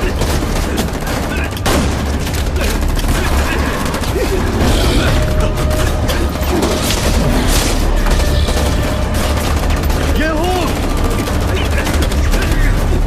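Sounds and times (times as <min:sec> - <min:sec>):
film soundtrack music: 0:00.0 - 0:13.0
rapid gunfire: 0:00.0 - 0:13.0.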